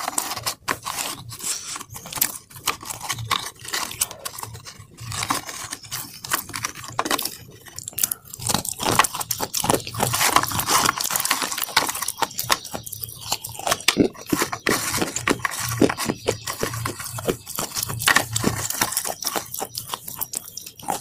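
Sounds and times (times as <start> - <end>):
brittle coating crackling and crunching: 0.0 - 21.0.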